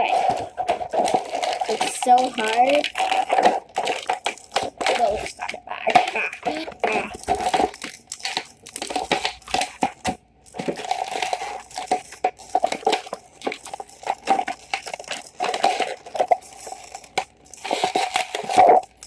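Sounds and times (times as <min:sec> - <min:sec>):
toy packaging crinkling: 0:00.0 - 0:19.0.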